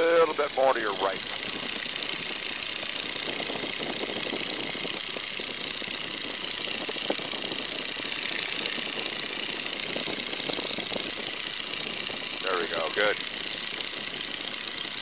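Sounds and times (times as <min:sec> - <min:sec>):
radial airplane engine running: 0:00.0 - 0:15.0.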